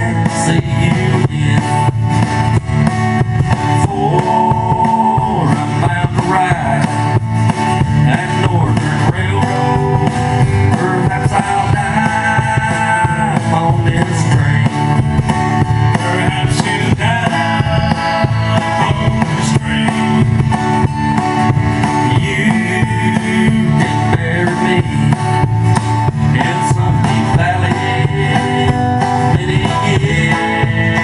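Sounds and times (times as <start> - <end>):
acoustic guitars strummed: 0.0 - 31.0
drum kit: 0.0 - 31.0
upright bass: 0.0 - 31.0.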